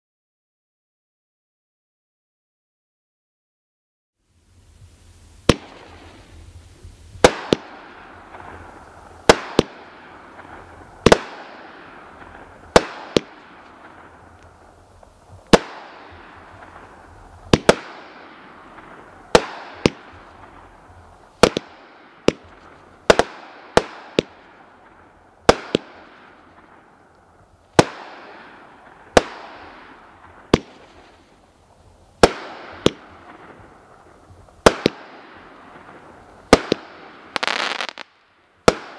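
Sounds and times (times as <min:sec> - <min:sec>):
firework bangs with hiss: 0:04.5 - 0:38.9.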